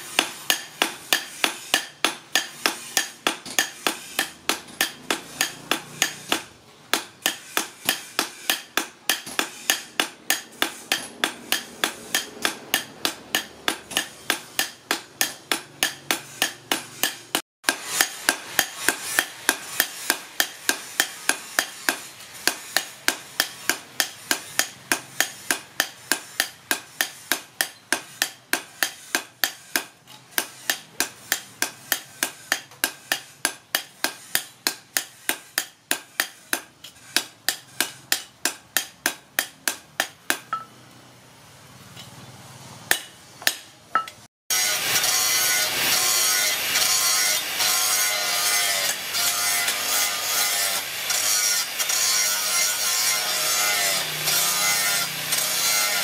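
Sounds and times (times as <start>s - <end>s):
hammers striking metal on anvil: 0.0s - 40.9s, 42.8s - 56.0s.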